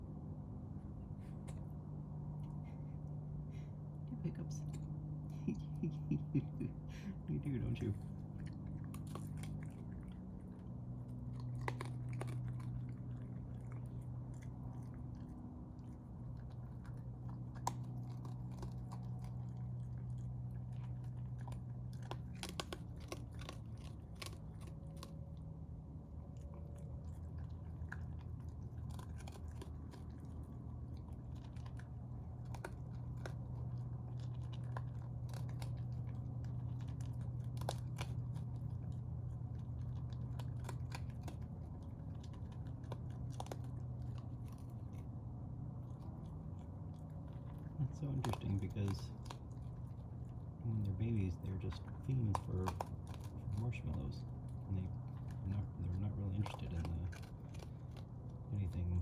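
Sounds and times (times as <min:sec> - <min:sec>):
raccoon chewing and crunching food: 0:00.0 - 0:59.0
steady low hum: 0:00.0 - 0:59.0.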